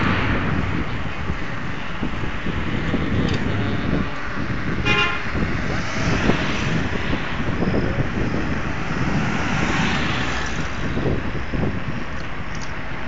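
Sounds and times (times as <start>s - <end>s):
bicycle tyre and road noise: 0.0s - 13.0s
wind buffeting microphone: 0.0s - 13.0s.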